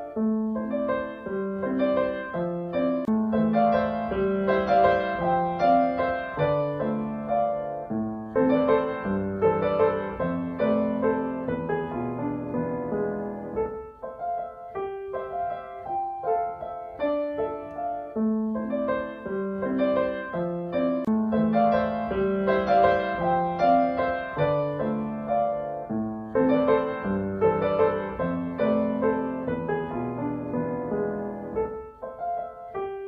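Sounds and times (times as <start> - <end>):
gentle piano music: 0.0 - 33.0.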